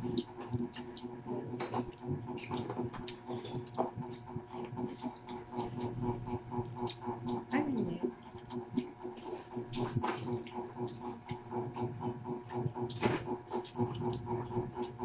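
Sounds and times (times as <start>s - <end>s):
people chewing with lip-smacking: 0.0s - 15.0s.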